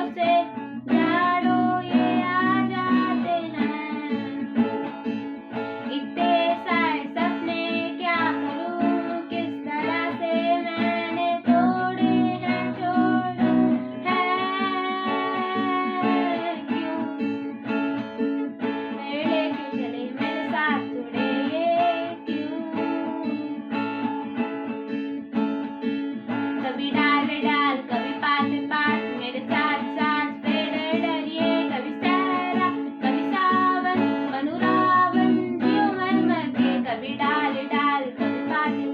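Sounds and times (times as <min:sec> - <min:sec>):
person singing: 0:00.0 - 0:04.8, 0:05.8 - 0:17.4, 0:18.9 - 0:23.8, 0:26.6 - 0:38.9
acoustic guitar: 0:00.0 - 0:38.9.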